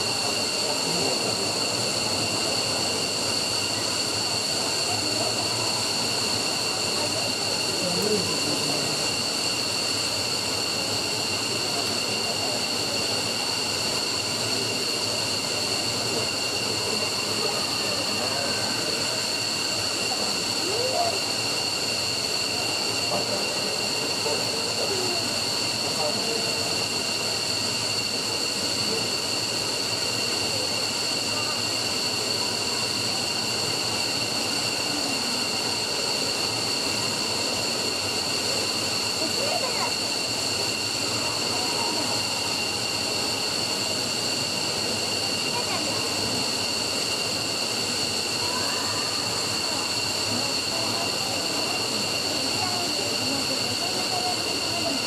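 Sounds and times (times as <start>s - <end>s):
jet engine running with high whine: 0.0s - 55.0s.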